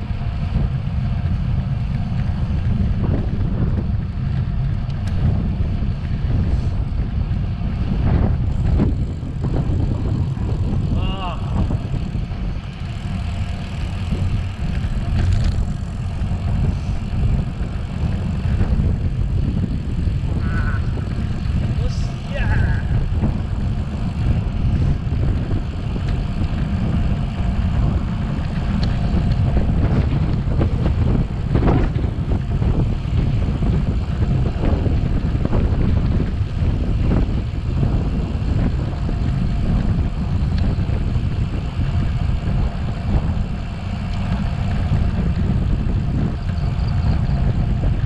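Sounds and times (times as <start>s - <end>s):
bicycle knocks and rattles: 0.0s - 48.0s
wind buffeting microphone: 0.0s - 48.0s.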